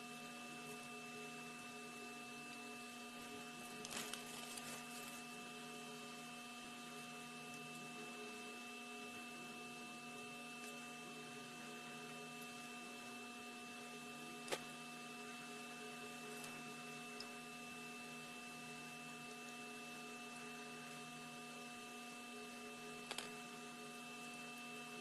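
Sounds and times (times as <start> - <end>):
low electrical hum: 0.0 - 25.0
thin high whine: 0.0 - 25.0.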